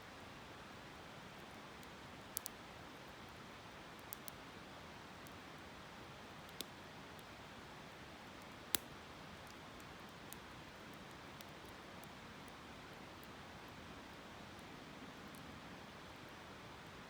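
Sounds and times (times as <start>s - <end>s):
wood fire crackling: 1.2s - 3.4s, 4.0s - 15.5s.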